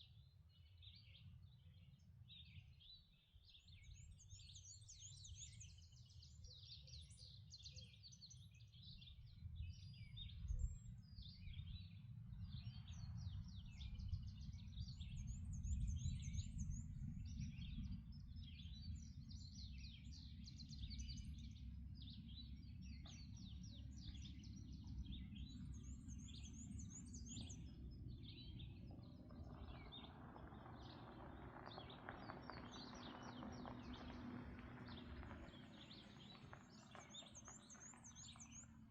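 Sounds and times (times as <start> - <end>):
songbirds chirping and trilling: 0.1 - 38.9.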